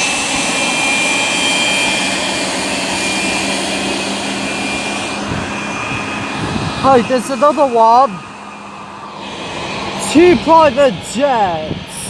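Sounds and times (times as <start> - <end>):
jet engine whine: 0.0 - 12.0
jet engines rushing: 0.0 - 12.0.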